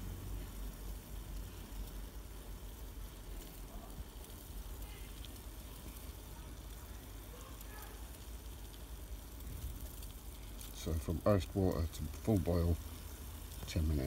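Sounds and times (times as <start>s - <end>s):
water boiling in a mug: 0.0s - 14.0s.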